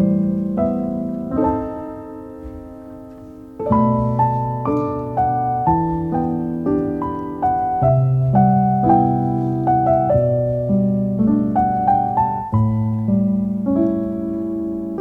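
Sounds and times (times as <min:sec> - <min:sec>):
soft solo piano music: 0:00.0 - 0:15.0.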